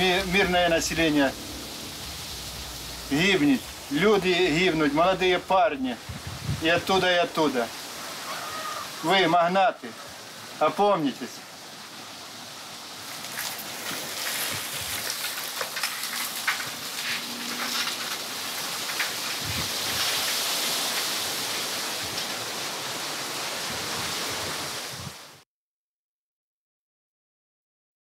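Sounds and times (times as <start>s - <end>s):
outdoor ambience hiss: 0.0s - 25.4s.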